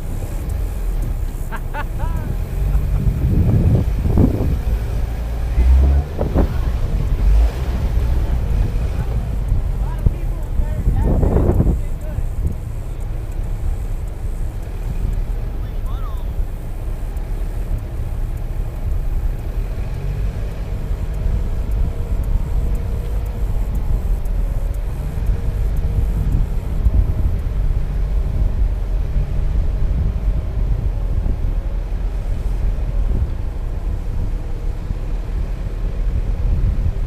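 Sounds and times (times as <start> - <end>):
vehicle engine and road rumble: 0.0 - 37.0.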